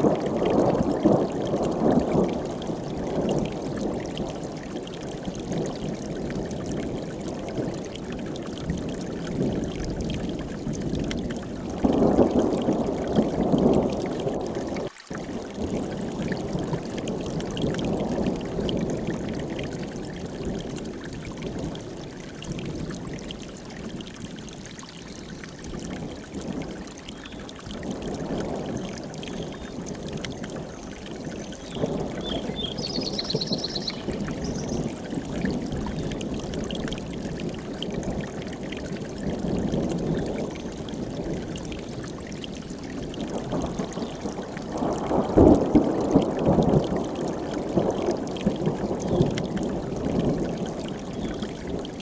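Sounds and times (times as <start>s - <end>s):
mountain stream rushing: 0.0s - 10.6s, 11.3s - 52.0s.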